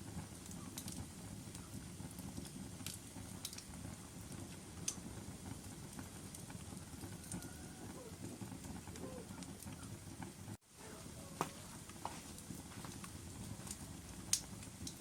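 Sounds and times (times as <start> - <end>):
fire flames rumbling: 0.0 - 15.0
wood crackling and popping: 0.0 - 15.0.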